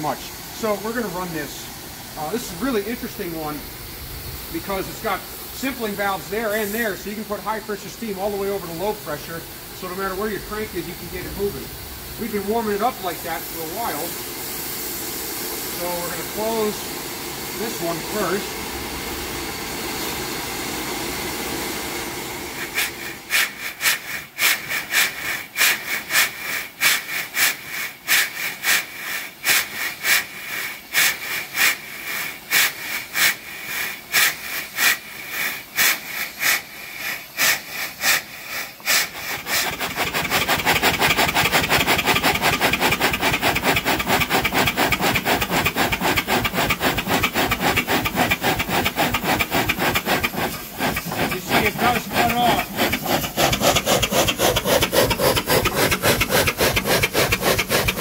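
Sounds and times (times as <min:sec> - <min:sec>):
steam engine beating: 0:00.0 - 0:58.0
steam hissing: 0:00.0 - 0:58.0.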